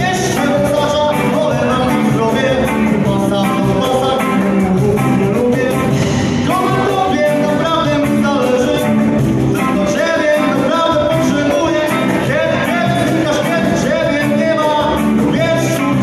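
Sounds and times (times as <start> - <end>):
drums with steady cymbal beat: 0.0 - 16.0
electric guitar: 0.0 - 16.0
person singing: 0.0 - 16.0.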